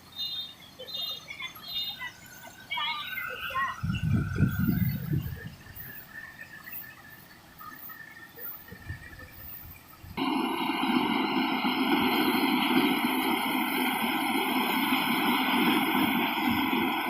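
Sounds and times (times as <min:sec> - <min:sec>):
combine harvester engine running: 0:03.3 - 0:17.0.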